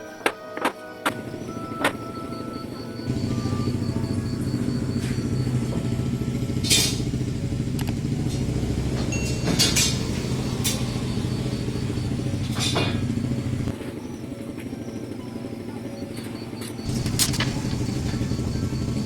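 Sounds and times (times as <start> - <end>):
power tool motor running: 3.0 - 15.6, 16.2 - 19.0.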